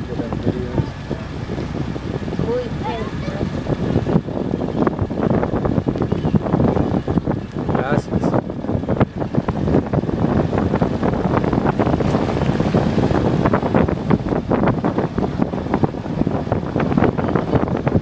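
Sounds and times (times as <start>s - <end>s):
road and engine noise: 0.0s - 18.0s
wind buffeting microphone: 0.0s - 18.0s.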